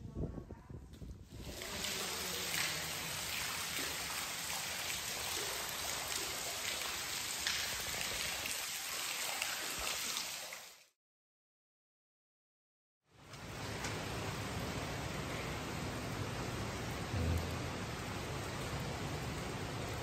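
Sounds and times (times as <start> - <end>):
water dripping and trickling: 1.3 - 10.9, 13.2 - 20.0.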